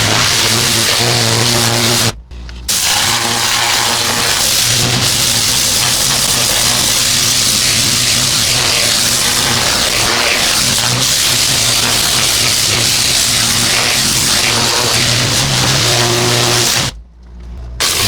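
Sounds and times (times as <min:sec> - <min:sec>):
pressure washer water jet hissing: 0:00.0 - 0:17.0, 0:17.8 - 0:18.0.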